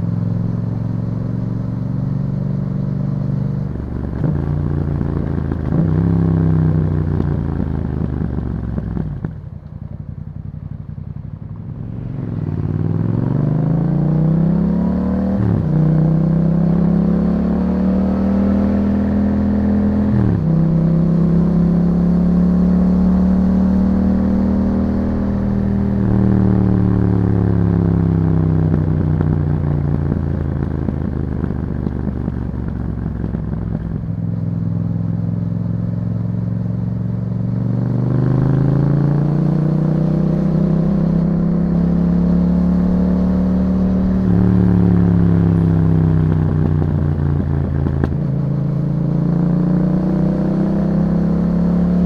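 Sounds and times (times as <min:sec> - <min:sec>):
motorcycle engine while riding: 0:00.0 - 0:52.0.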